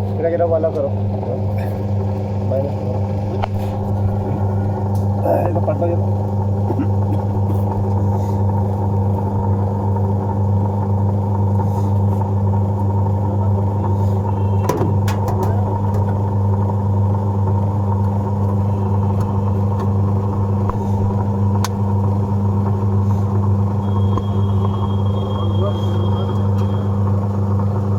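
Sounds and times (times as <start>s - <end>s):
washing machine spinning: 0.0s - 27.9s.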